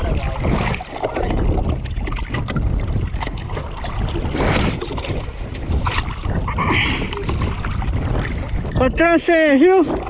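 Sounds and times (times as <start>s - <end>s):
water rushing against boat hull: 0.0s - 10.0s
wind buffeting microphone: 0.0s - 10.0s.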